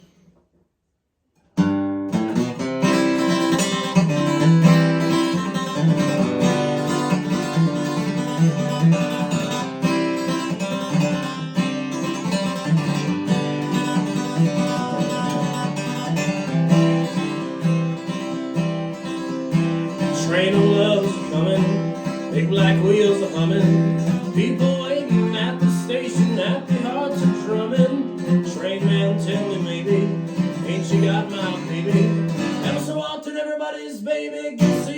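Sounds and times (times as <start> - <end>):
acoustic guitar strumming: 1.6 - 33.5, 34.6 - 34.9.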